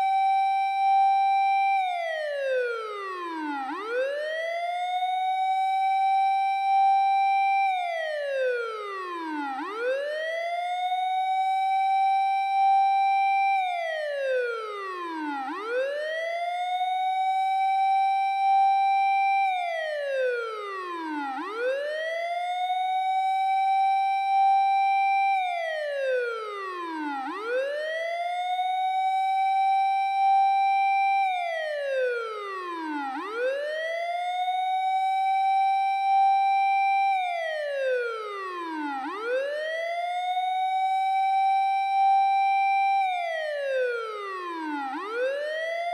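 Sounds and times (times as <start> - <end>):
fire engine siren wailing: 0.0 - 45.9.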